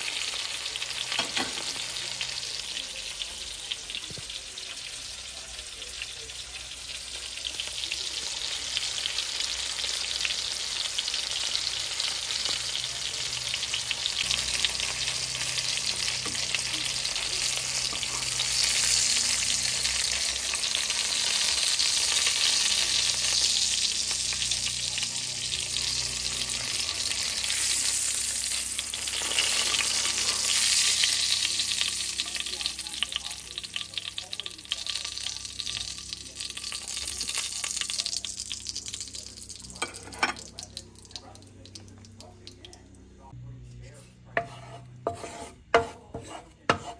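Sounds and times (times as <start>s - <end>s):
chicken sizzling in oil: 0.0s - 42.9s.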